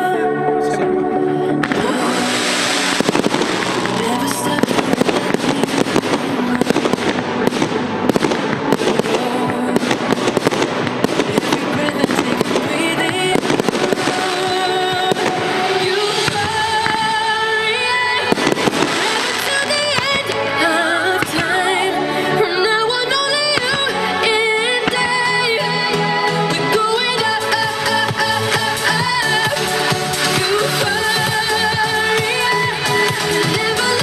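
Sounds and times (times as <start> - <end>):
music: 0.0 - 34.0
fireworks crackling and popping: 1.6 - 34.0.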